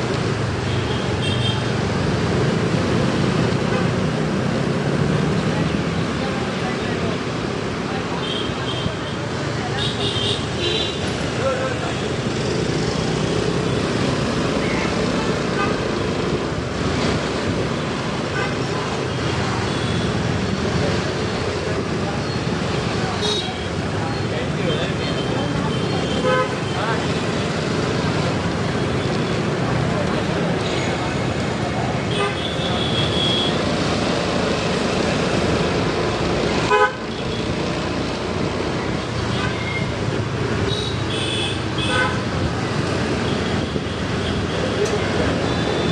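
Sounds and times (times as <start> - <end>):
motorbike engine and road noise: 0.0 - 45.9.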